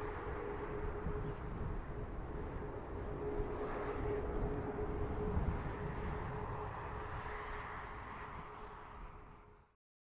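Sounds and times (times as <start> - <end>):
distant jet engines whining: 0.0 - 9.7.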